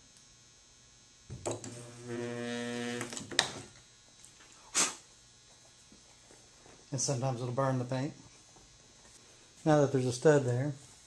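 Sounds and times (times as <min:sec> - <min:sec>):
electrical hum of welder: 0:00.0 - 0:11.0.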